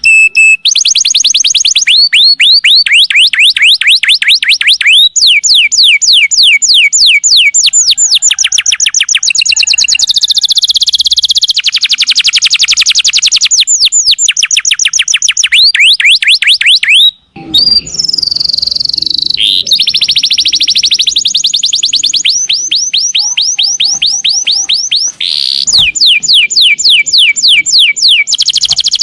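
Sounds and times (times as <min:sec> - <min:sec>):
canary singing trills: 0:00.0 - 0:29.0.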